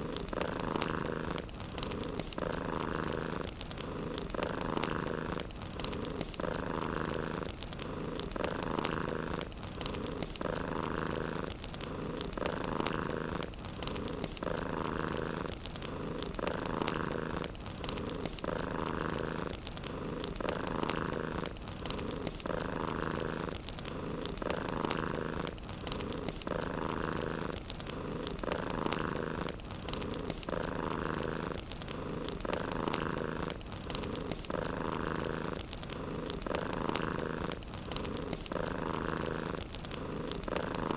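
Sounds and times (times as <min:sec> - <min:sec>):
cat purring: 0:00.0 - 0:40.9
wood fire crackling: 0:00.0 - 0:40.9.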